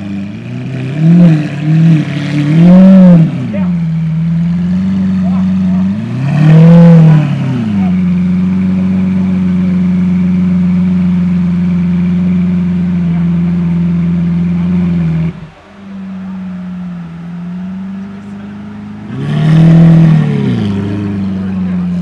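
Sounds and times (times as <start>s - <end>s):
sports car engine idling loudly: 0.0s - 22.0s.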